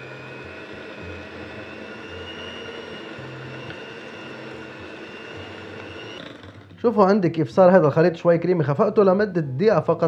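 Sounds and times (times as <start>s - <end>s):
electric mixer whining: 0.0s - 10.0s.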